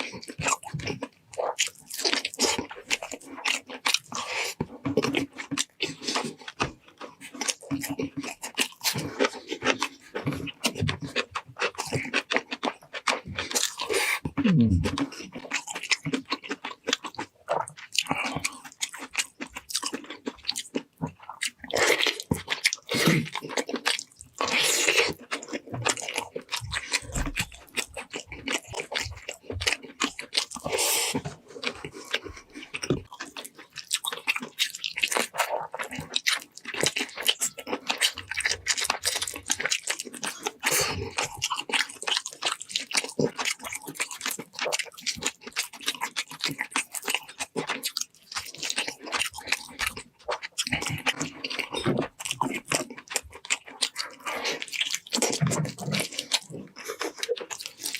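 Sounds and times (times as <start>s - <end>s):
chewing and crunching food: 0.0s - 57.9s
wet mouth sounds: 0.0s - 57.9s.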